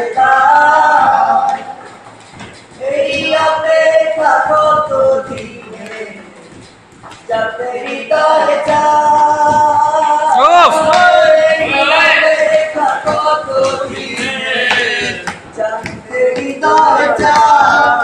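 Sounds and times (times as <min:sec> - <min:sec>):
men singing loudly: 0:00.0 - 0:01.8, 0:02.8 - 0:06.3, 0:07.3 - 0:18.0.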